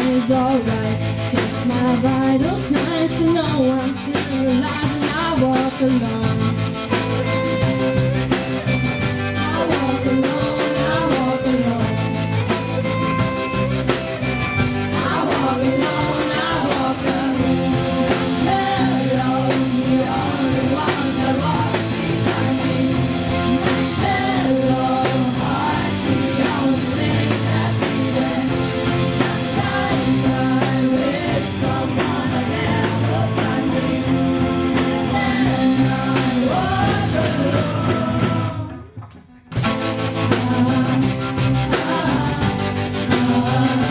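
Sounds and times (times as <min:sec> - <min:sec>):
voices singing: 0:00.0 - 0:39.0, 0:39.8 - 0:43.9
rock band playing live: 0:00.0 - 0:43.9.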